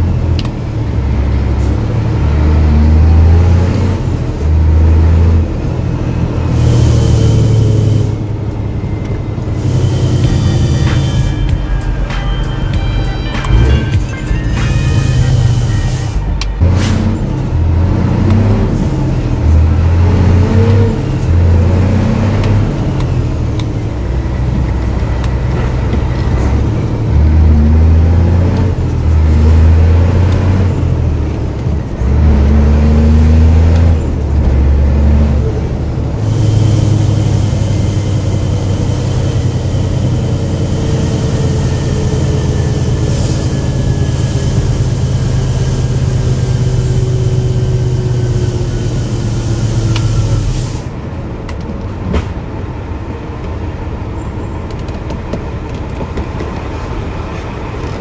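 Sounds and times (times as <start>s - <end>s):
truck diesel engine revving: 0.0s - 51.1s.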